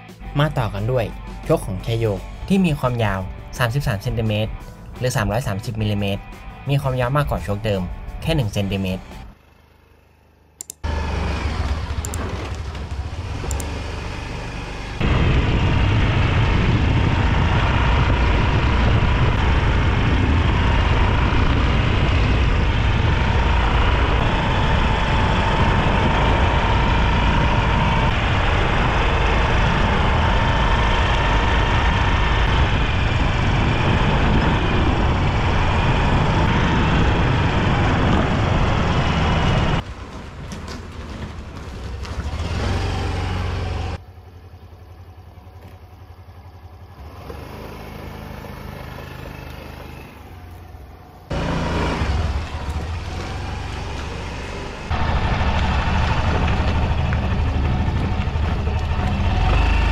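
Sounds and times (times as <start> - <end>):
scooter engine and road noise: 0.0 - 59.9.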